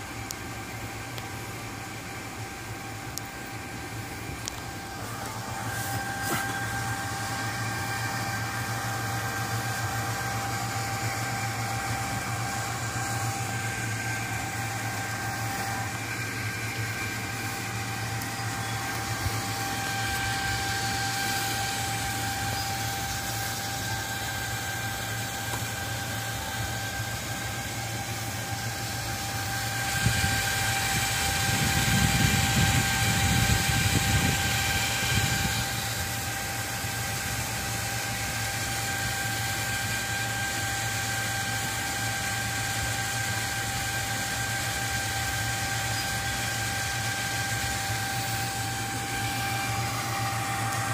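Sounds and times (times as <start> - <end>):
computer fans running loud: 0.0 - 50.9.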